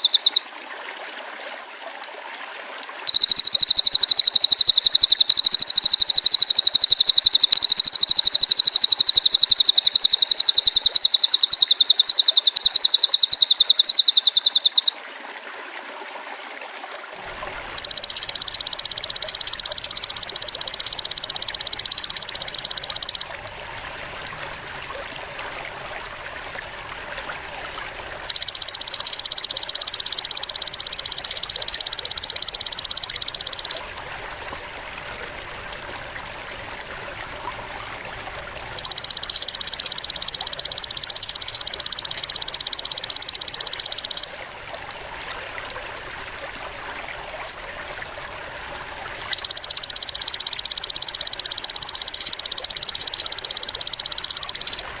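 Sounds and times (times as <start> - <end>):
faint rushing background: 3.1 - 15.0, 17.3 - 44.4, 49.2 - 55.0.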